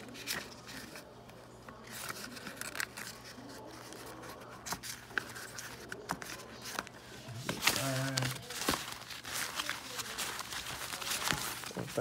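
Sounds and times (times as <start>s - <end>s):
paper booklets rustling: 0.0s - 12.0s
paper ticks and flaps: 1.9s - 12.0s.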